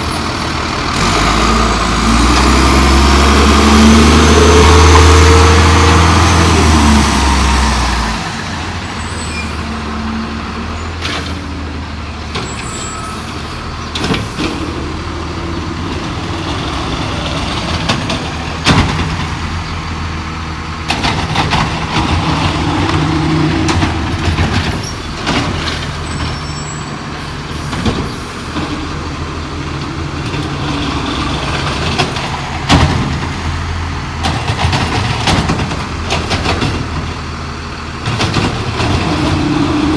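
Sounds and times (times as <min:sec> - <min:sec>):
diesel garbage truck running: 0:00.0 - 0:39.9.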